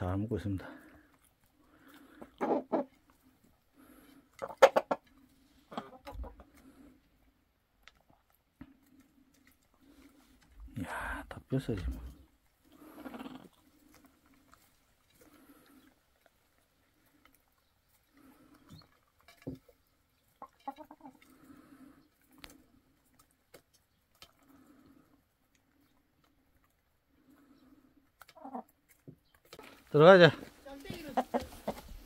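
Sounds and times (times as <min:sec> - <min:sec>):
beaks pecking clay bowl: 0:00.0 - 0:32.0
hens clucking softly: 0:00.4 - 0:10.8, 0:11.6 - 0:32.0.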